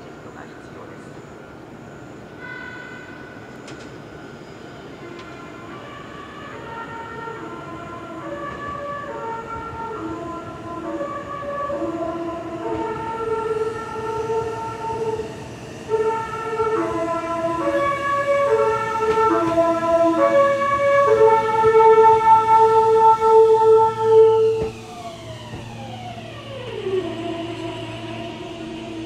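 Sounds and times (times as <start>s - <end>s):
train music horn melody: 5.1s - 29.0s.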